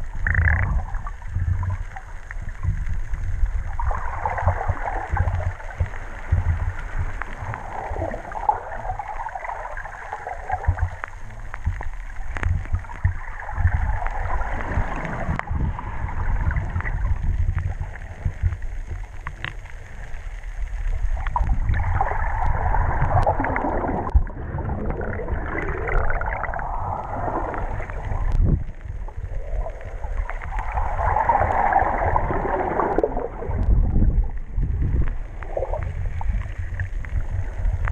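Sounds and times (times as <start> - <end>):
underwater rumble of moving water: 0.0 - 37.9.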